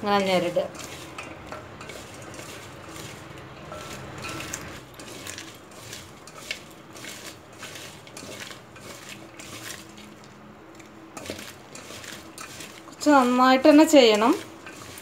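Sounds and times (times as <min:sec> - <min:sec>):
gourd pieces rubbed in metal bowl: 0:00.0 - 0:15.0.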